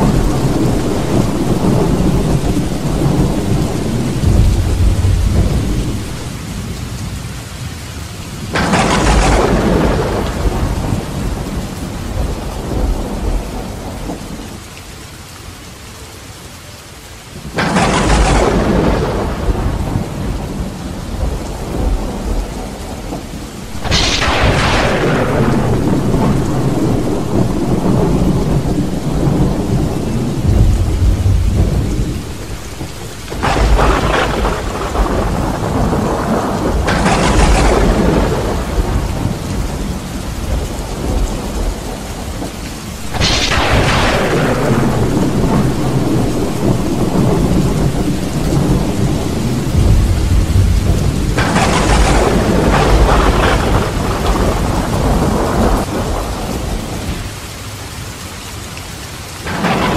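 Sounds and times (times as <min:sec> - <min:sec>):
sharp thunderclaps: 0:00.0 - 0:06.7, 0:08.4 - 0:14.6, 0:17.4 - 0:57.4, 0:59.4 - 0:59.9
thunder rumbling: 0:00.0 - 0:14.6, 0:17.4 - 0:57.5, 0:59.4 - 0:59.9
heavy rain hissing: 0:00.0 - 0:59.9.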